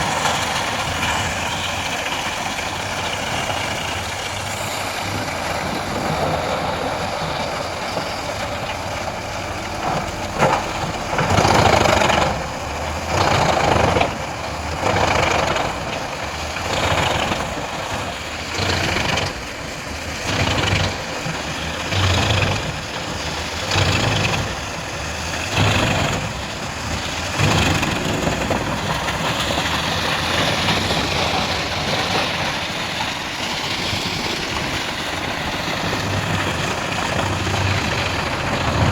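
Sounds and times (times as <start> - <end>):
wood chipper chipping wood: 0.0 - 38.9
wood chipper engine running: 0.0 - 38.9.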